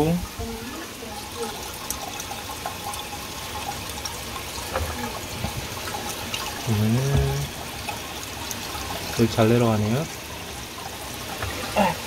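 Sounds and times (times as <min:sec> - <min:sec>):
water pouring down drain pipe: 0:00.0 - 0:12.0.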